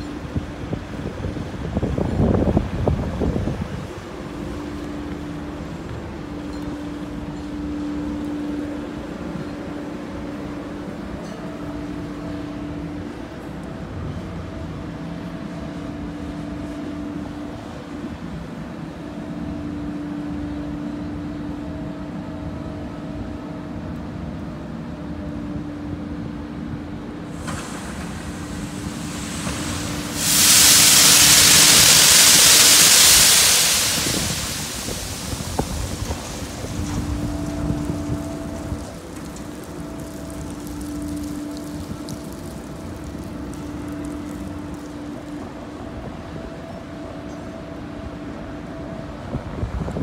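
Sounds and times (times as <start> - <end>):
crane machinery humming: 0.0 - 50.0.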